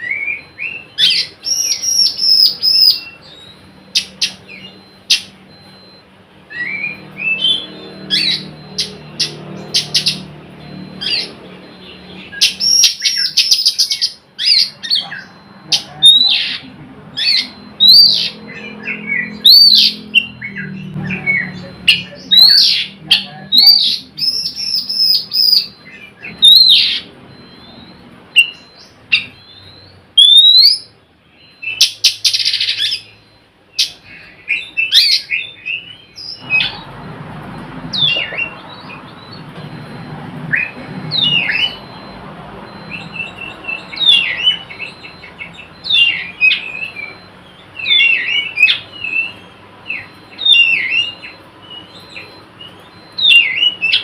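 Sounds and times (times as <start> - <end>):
magpie-robin singing: 0.0 - 36.9, 37.9 - 54.0.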